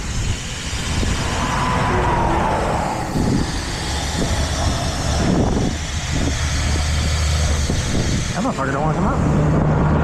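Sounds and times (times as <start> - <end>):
heavy truck engine rumbling: 0.0 - 10.0.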